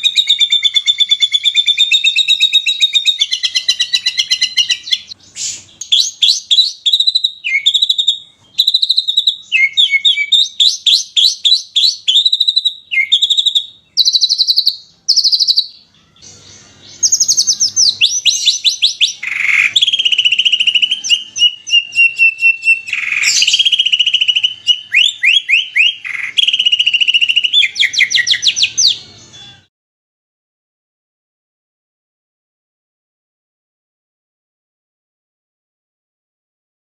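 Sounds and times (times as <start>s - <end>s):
bird whistle: 0.0s - 29.7s
songbirds chirping and trilling: 0.0s - 29.7s.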